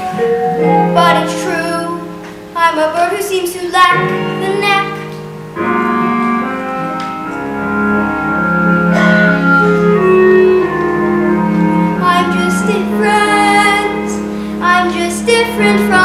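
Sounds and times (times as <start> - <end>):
instrumental sustained chords: 0.0 - 16.0.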